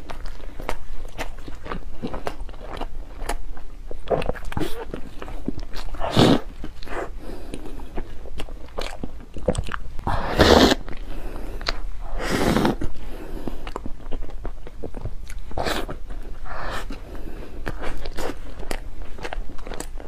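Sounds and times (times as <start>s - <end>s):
person chewing bread: 0.0s - 20.0s.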